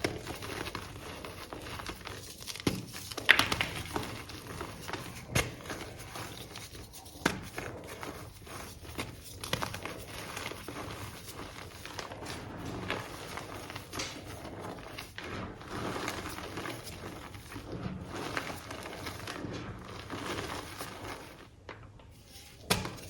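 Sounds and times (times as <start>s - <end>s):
chalk block crumbling: 0.0s - 23.0s.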